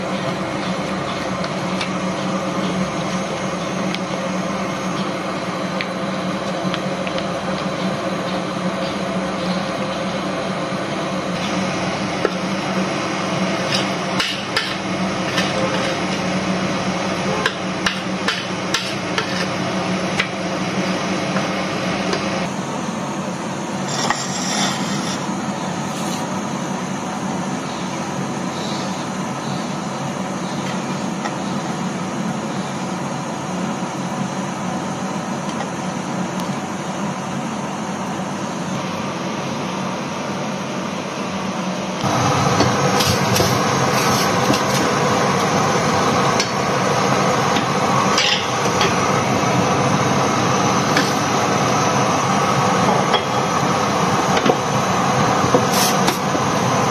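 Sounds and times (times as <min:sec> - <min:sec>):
steady hum: 0:00.0 - 0:56.9.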